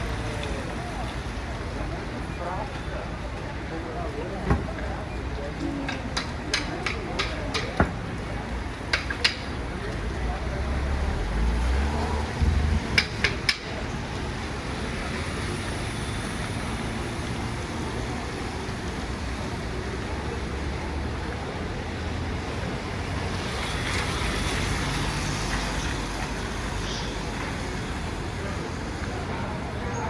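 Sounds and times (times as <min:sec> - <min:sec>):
wet street traffic: 0:00.0 - 0:30.0.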